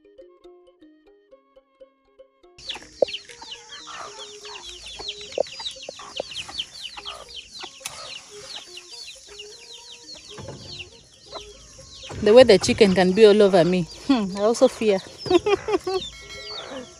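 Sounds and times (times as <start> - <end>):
chickens clucking: 2.6 - 16.9.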